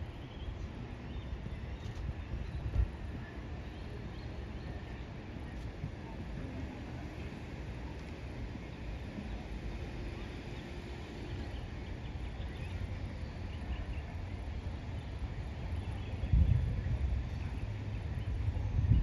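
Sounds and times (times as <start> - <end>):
wind rumbling on microphone: 0.0 - 9.2, 11.4 - 19.0.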